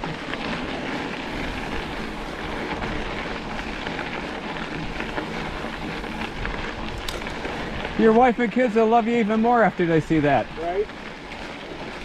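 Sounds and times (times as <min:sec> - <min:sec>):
bike clicks and rattles: 0:00.0 - 0:12.0
bike tyres on gravel: 0:00.0 - 0:12.0.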